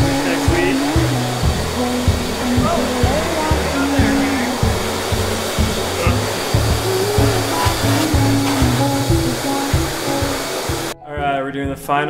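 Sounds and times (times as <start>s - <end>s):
dryer blowing air: 0.0s - 11.0s
background music with bass line: 0.0s - 12.0s.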